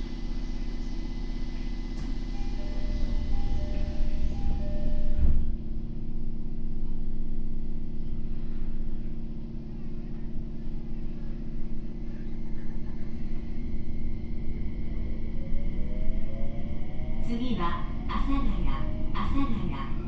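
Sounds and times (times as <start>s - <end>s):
subway car low rumble: 0.0s - 20.0s.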